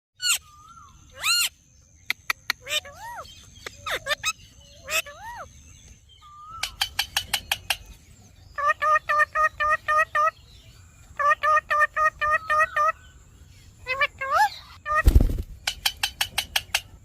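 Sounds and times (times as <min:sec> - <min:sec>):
lovebird chirping: 0:00.2 - 0:17.0.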